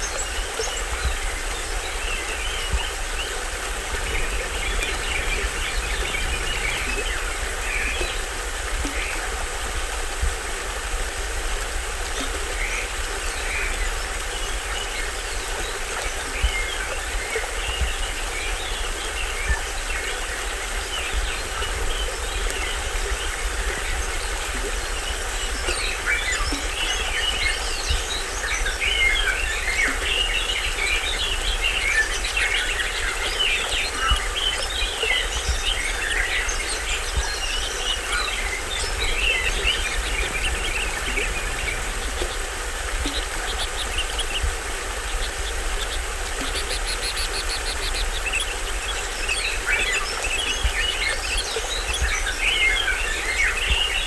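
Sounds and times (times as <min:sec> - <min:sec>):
forest birds chirping: 0:00.0 - 0:09.4, 0:12.2 - 0:54.0
small waterfall splashing: 0:00.0 - 0:54.0.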